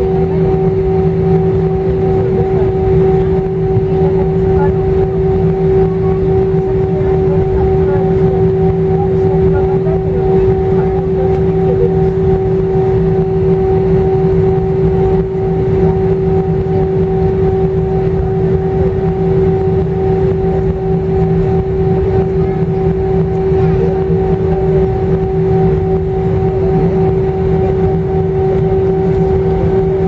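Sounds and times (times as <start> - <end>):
aircraft engine drone: 0.0 - 30.0.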